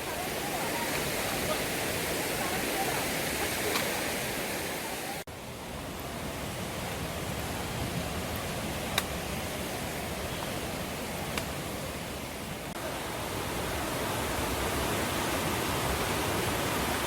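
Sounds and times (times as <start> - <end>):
mountain stream water rushing: 0.0 - 17.0.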